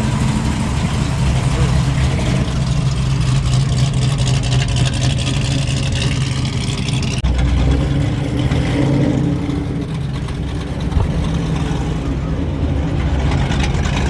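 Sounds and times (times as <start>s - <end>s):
car engines running: 0.0s - 14.0s.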